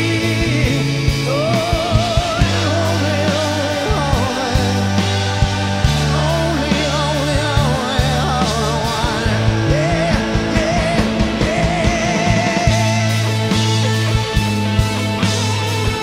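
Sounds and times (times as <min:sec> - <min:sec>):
person singing with vibrato: 0:00.0 - 0:14.1
drums: 0:00.0 - 0:16.0
electric bass: 0:00.0 - 0:16.0
electric guitars: 0:00.0 - 0:16.0.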